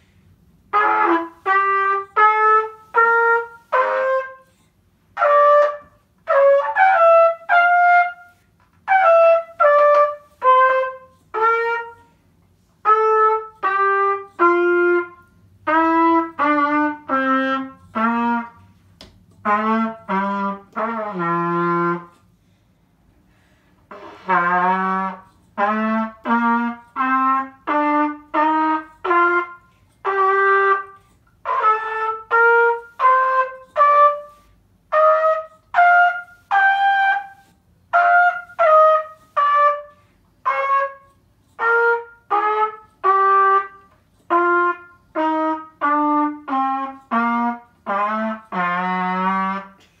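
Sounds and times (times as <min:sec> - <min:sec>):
brass instrument playing scale: 0:00.4 - 0:22.4, 0:23.8 - 0:50.0.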